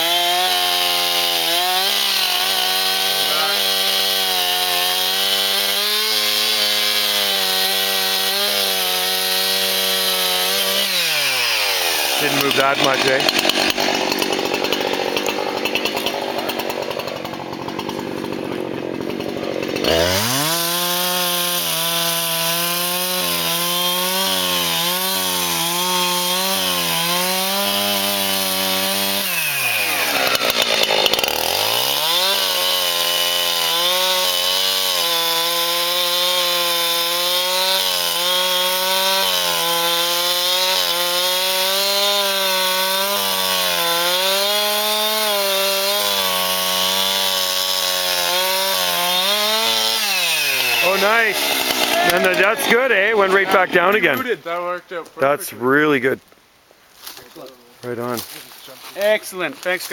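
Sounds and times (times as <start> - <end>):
chainsaw cutting a tree: 0.0 - 54.3.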